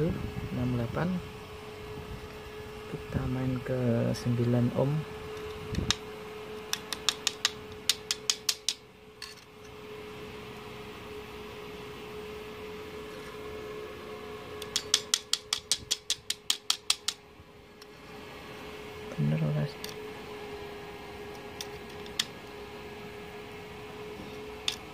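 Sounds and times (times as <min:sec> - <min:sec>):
welder whine: 0:00.0 - 0:24.9.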